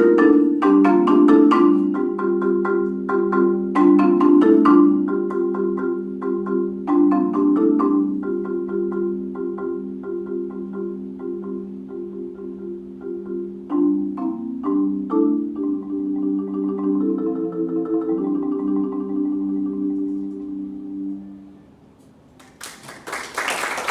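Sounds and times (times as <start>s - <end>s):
marimba playing: 0.0s - 21.5s.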